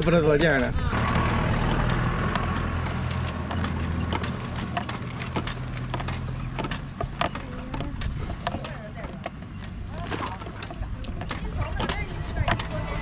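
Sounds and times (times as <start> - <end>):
wooden bellows clacking: 0.0 - 13.0.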